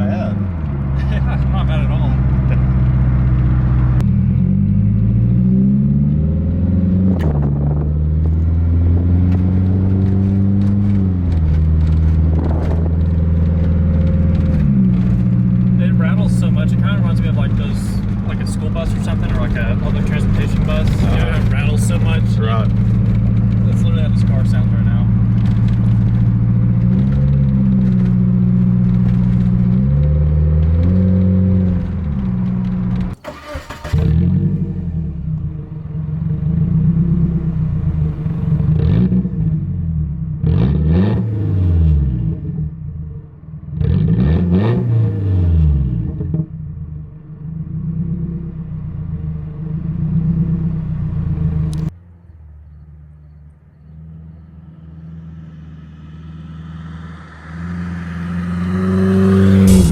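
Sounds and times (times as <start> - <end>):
car engine running: 0.0 - 40.4, 45.2 - 59.9.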